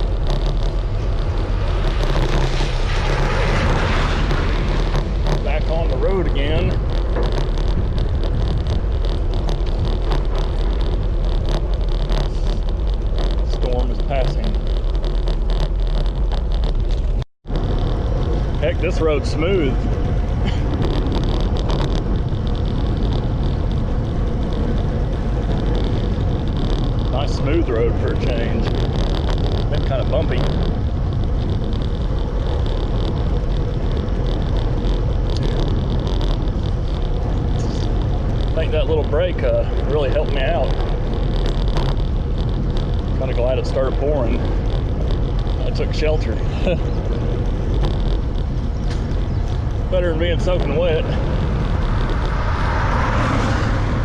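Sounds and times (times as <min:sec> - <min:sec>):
bicycle tyre and road noise: 0:00.0 - 0:54.0
wind rushing over microphone: 0:00.0 - 0:54.0.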